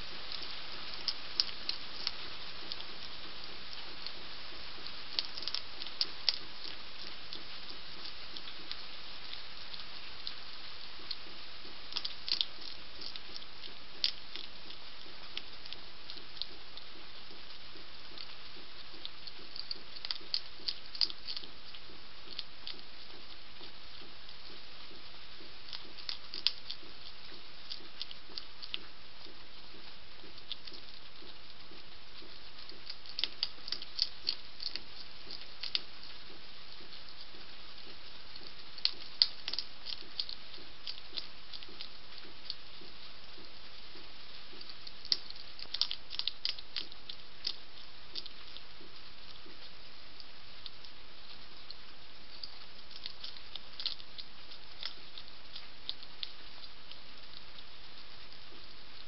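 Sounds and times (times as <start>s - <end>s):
hedgehog crunching kibble: 0.0s - 59.0s
steady background hiss: 0.0s - 59.0s.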